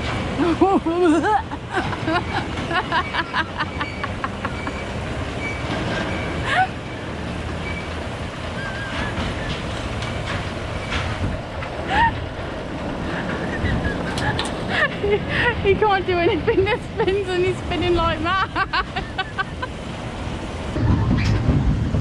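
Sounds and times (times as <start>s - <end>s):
roller coaster rumbling on track: 0.0s - 22.0s.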